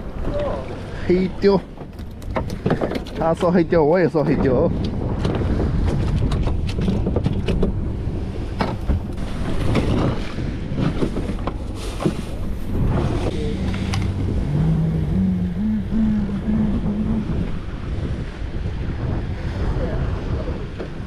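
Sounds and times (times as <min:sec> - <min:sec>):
sea water around a boat: 0:00.0 - 0:21.0
wind on the microphone: 0:02.3 - 0:21.0.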